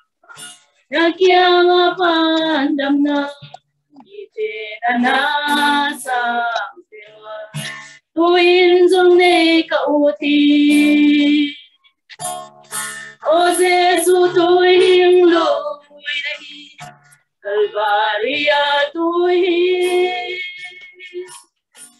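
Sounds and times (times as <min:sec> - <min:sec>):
women singing a hymn: 0:00.9 - 0:07.6, 0:08.2 - 0:11.7, 0:13.2 - 0:16.8, 0:17.4 - 0:21.4.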